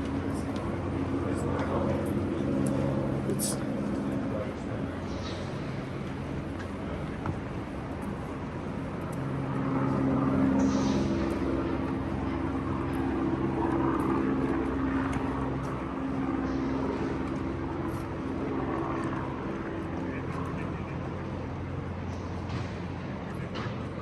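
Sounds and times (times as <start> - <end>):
city background noise: 0.0 - 24.0
low engine drone: 0.0 - 24.0.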